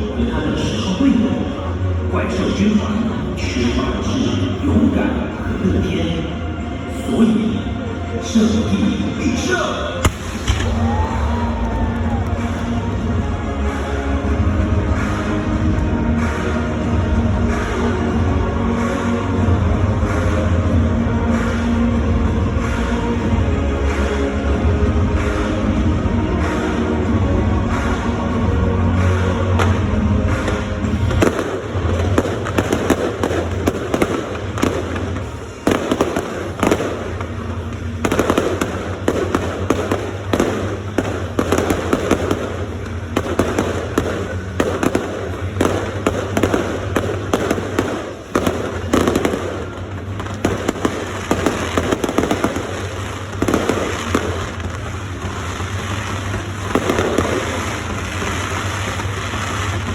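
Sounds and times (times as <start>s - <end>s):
fireworks bangs and crackling: 9.1s - 59.9s.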